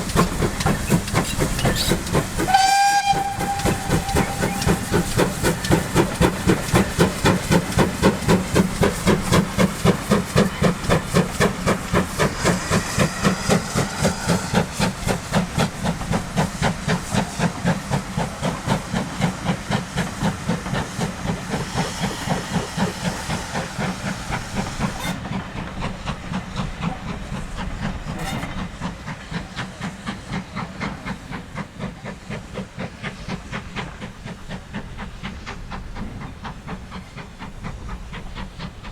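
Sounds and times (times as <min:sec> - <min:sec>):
steam hiss: 0:00.0 - 0:38.9
steam locomotive exhaust beats: 0:00.0 - 0:38.9.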